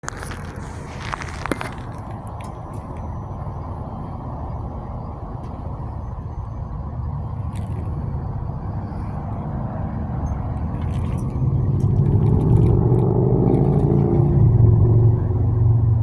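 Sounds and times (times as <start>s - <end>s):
helicopter rotor and engine rumbling: 0.0s - 16.0s.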